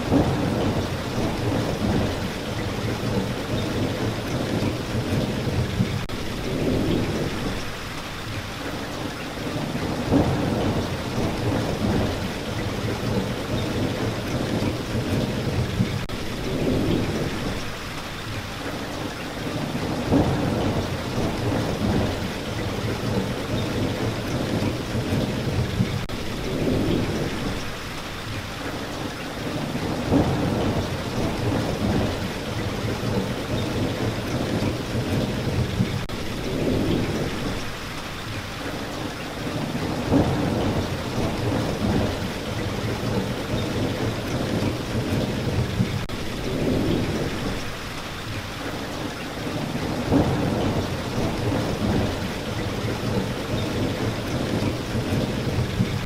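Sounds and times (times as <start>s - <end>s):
low rolling thunder: 0.0s - 7.8s, 9.4s - 17.8s, 19.4s - 27.8s, 29.4s - 37.8s, 39.4s - 47.8s, 49.4s - 56.0s
steady rain falling: 0.0s - 56.0s.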